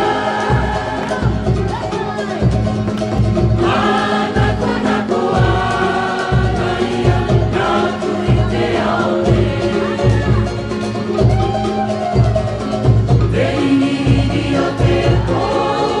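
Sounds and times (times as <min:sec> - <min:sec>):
group of voices singing: 0:00.0 - 0:02.3, 0:03.0 - 0:12.0, 0:13.0 - 0:16.0
deep bass beat: 0:00.0 - 0:16.0.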